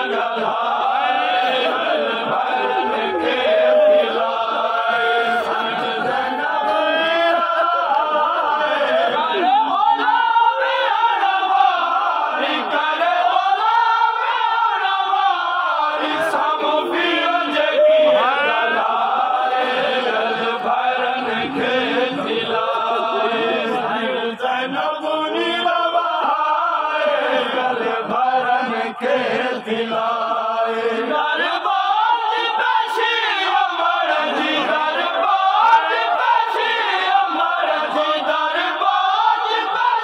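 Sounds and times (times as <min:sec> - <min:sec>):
men chanting a lament: 0:00.0 - 0:40.0.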